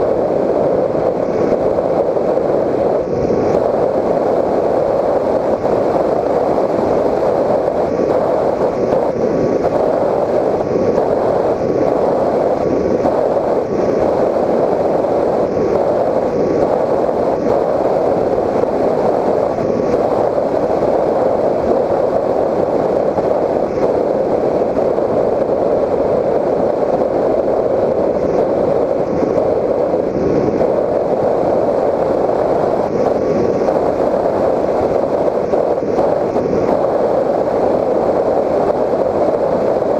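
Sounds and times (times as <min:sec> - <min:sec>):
airflow rushing: 0:00.0 - 0:39.9
faint steady whine: 0:00.0 - 0:39.9.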